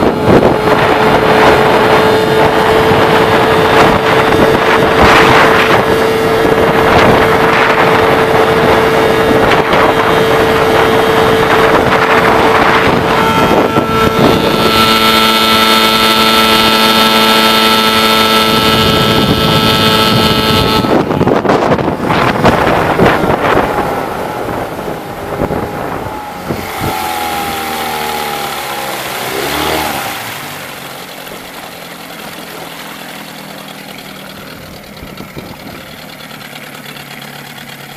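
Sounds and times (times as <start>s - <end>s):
outboard motor running: 0.0s - 37.9s
water splashing around hull: 0.0s - 37.9s.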